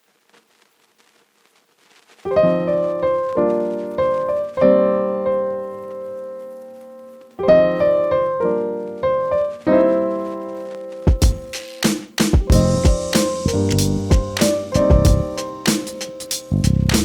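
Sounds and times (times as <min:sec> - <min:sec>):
piano chords: 0:02.3 - 0:17.0.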